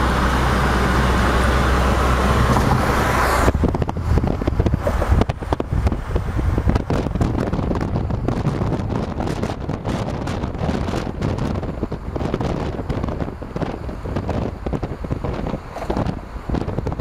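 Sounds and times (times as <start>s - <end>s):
low road rumble: 0.0s - 17.0s
wind buffeting microphone: 0.0s - 17.0s.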